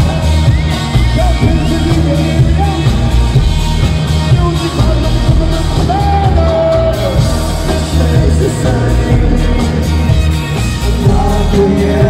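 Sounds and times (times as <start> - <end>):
heavy drum and bass groove: 0.0 - 12.0
live band music: 0.0 - 12.0.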